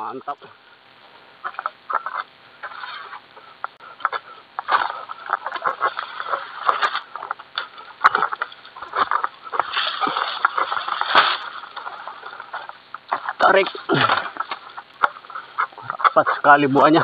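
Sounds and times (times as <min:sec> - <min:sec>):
sharp cracks: 0:01.4 - 0:15.9
sickle sawing palm stalks: 0:01.9 - 0:16.5.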